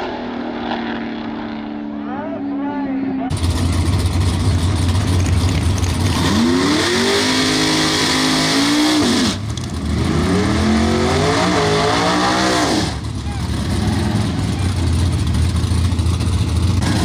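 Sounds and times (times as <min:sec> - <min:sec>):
car engine revving: 0:03.2 - 0:17.0.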